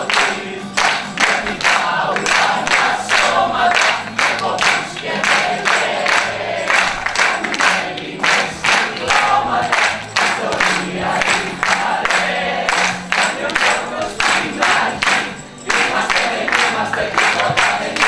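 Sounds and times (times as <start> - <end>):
group singing with music: 0.0 - 18.0.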